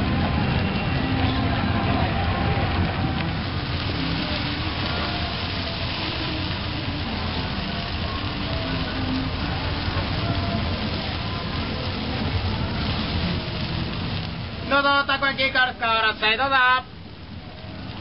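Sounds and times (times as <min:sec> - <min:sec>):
batter sizzling on griddle: 0:00.0 - 0:18.0.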